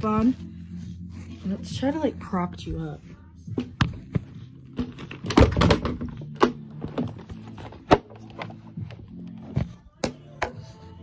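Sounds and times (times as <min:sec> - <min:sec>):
background music with low tone: 0:00.0 - 0:11.0.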